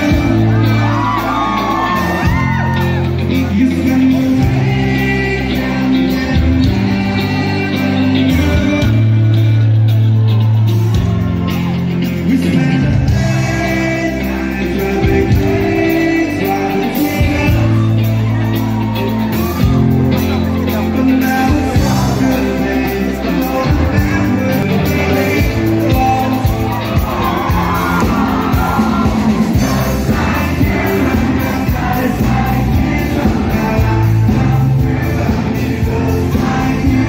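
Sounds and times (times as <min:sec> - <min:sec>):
bass holding long notes: 0:00.0 - 0:37.0
lead singer singing: 0:00.0 - 0:37.0
live rock band playing: 0:00.0 - 0:37.0.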